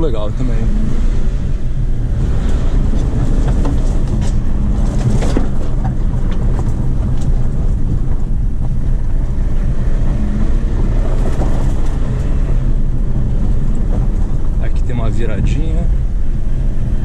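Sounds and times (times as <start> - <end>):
car engine droning: 0.0 - 17.0
tyre and suspension rumble: 0.0 - 17.0.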